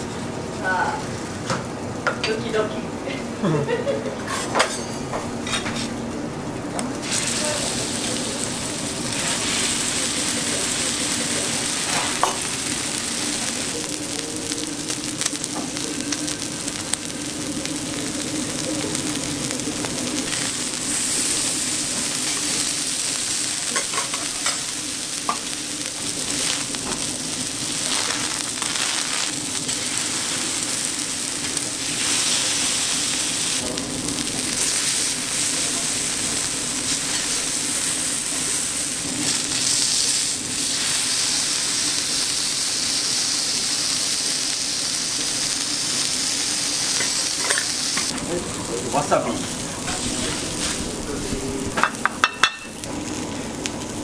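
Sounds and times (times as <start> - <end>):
beef sizzling on a griddle: 6.9 - 54.0.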